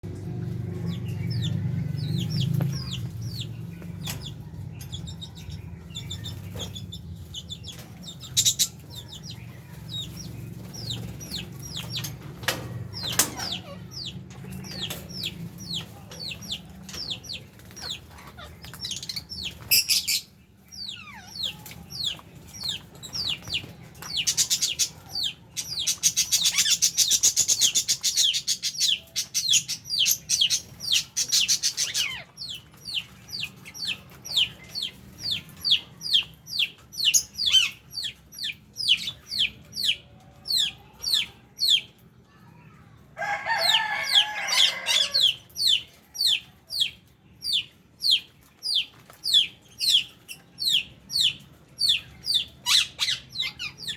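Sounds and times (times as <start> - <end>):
small parrots chirping: 0.9 - 12.1, 13.0 - 40.0, 43.8 - 53.9.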